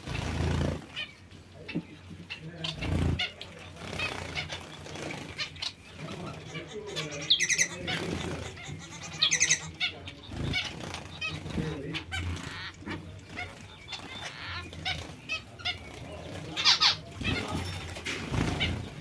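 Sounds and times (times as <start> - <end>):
finches chirping: 0.0 - 19.0.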